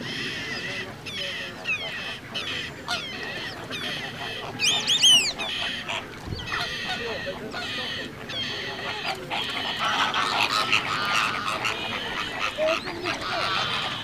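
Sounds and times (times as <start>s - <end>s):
flamingo flock honking: 0.0s - 14.0s.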